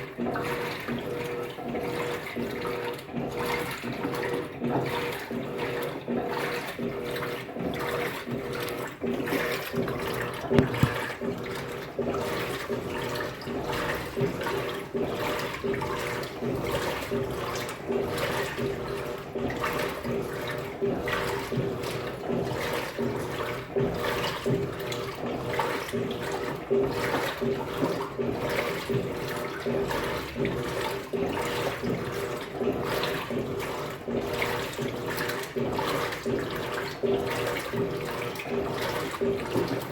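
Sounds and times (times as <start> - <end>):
washing machine motor hum: 0.0 - 39.9
water sloshing in washing machine: 0.0 - 39.9.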